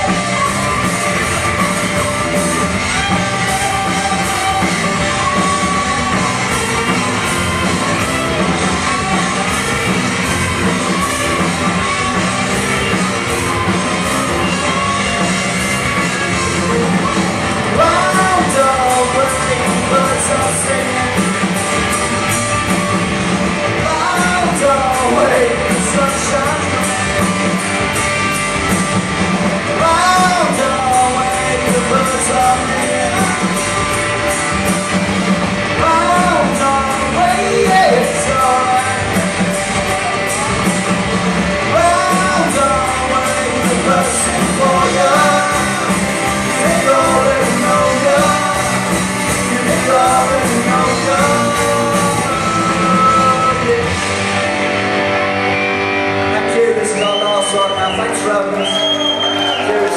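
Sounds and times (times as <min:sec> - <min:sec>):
lead singer singing: 0:00.0 - 0:22.0, 0:23.7 - 0:27.6, 0:29.6 - 0:34.3, 0:35.7 - 0:40.8, 0:41.5 - 0:54.2
live rock band playing: 0:00.0 - 0:59.9.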